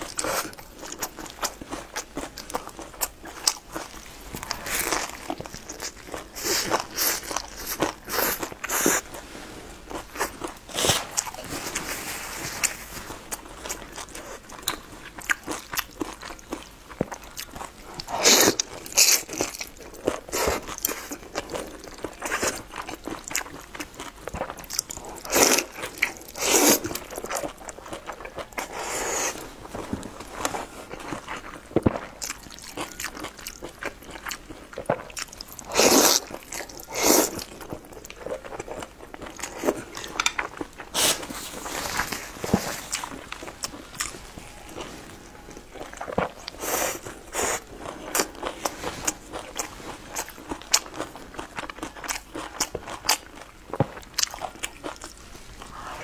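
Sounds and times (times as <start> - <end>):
crisp chewing: 0.0 - 9.3, 9.9 - 56.0.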